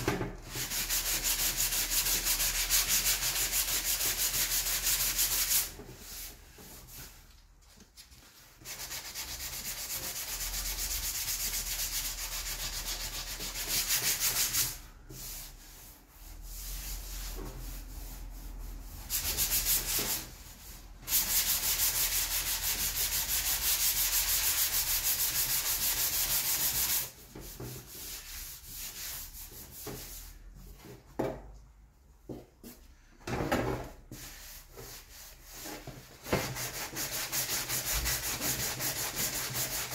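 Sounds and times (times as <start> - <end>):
sanding sponge scraping plastic: 0.4 - 7.2, 8.4 - 30.4, 34.1 - 39.9.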